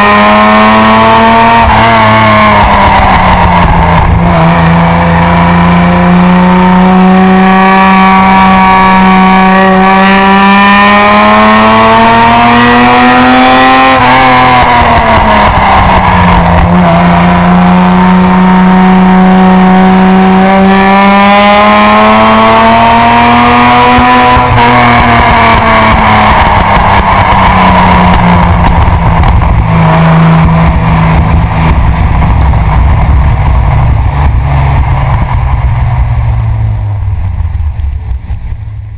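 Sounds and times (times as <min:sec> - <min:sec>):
car exhaust engine note: 0:00.0 - 0:38.9
road noise: 0:00.0 - 0:38.9.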